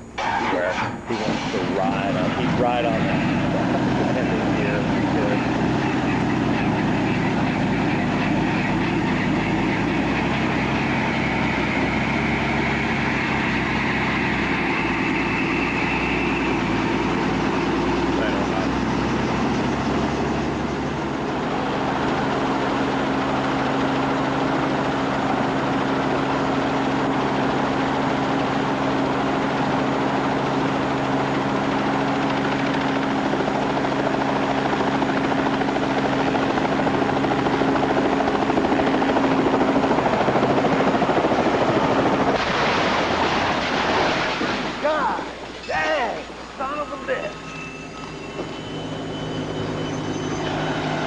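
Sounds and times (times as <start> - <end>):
helicopter engine and rotors humming: 0.0 - 51.0.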